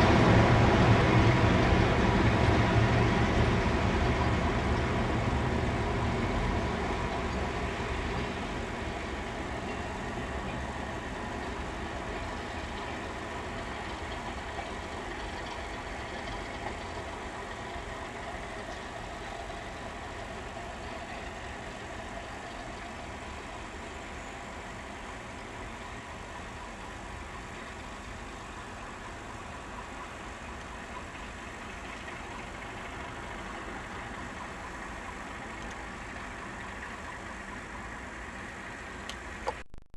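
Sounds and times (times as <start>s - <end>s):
diesel locomotive engine drone: 0.0s - 39.8s.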